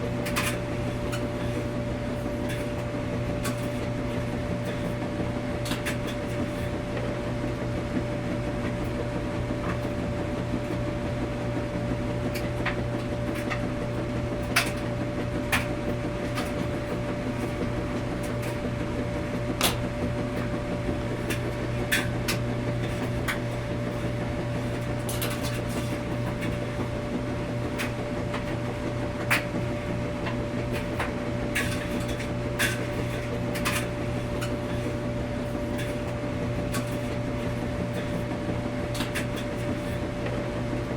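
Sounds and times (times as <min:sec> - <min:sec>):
washing machine hum: 0:00.0 - 0:40.9.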